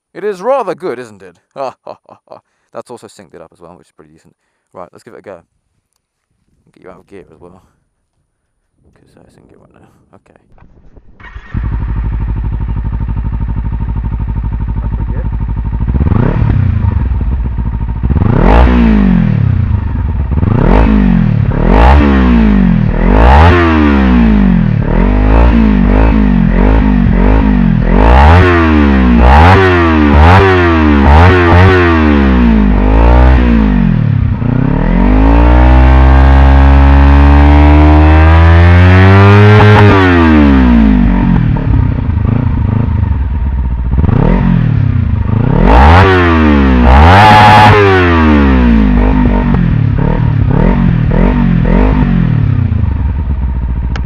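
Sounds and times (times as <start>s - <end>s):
motorcycle engine revving: 10.6s - 54.0s.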